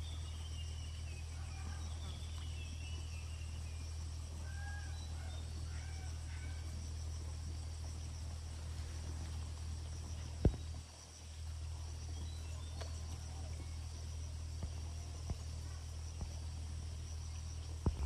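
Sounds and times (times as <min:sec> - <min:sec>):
insects chirring: 0:00.0 - 0:18.0
low hum: 0:00.0 - 0:18.0.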